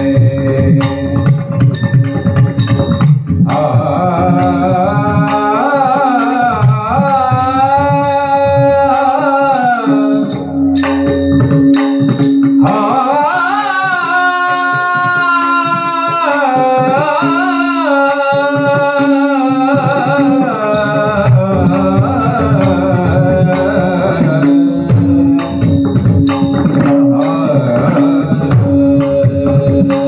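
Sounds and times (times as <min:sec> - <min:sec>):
drum strokes: 0:00.0 - 0:30.0
person singing devotional melody: 0:00.0 - 0:30.0.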